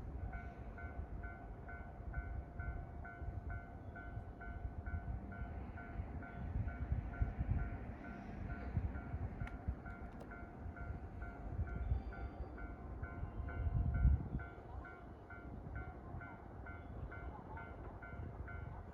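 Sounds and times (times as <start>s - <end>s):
train rumble and whine: 0.0s - 18.9s.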